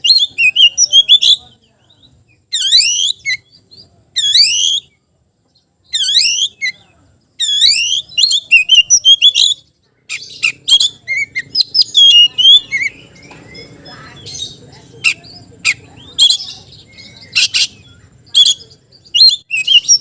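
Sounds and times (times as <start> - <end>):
bird whistling and chattering: 0.0 - 5.0, 5.8 - 20.0.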